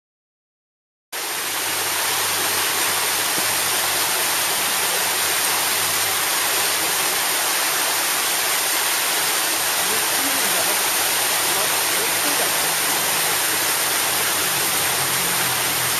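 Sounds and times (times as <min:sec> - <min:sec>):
waterfall rushing: 0:01.2 - 0:15.9.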